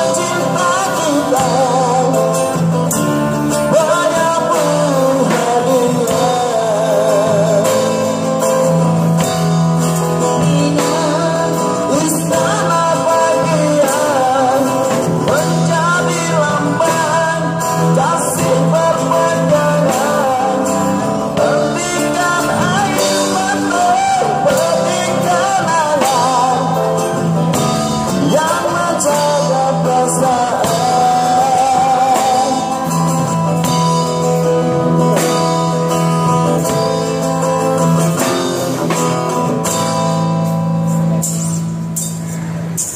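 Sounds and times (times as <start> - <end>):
man singing: 0.0 - 40.9
bass line: 0.0 - 42.9
drum kit with cymbals: 0.0 - 42.9
guitar: 0.0 - 42.9
live pop band: 0.0 - 42.9.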